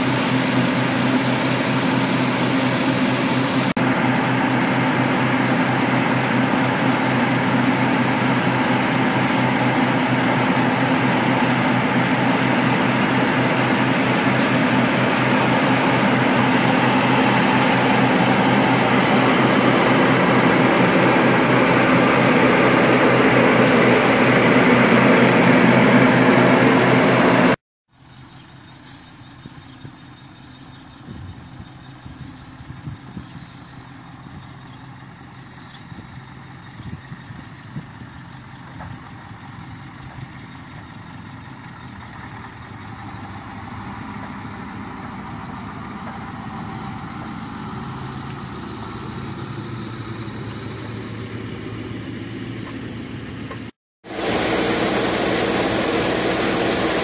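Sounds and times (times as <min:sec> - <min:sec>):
combine harvester engine running: 0:00.0 - 0:57.0
engine idling: 0:00.0 - 0:57.0
tractor engine: 0:00.0 - 0:57.0.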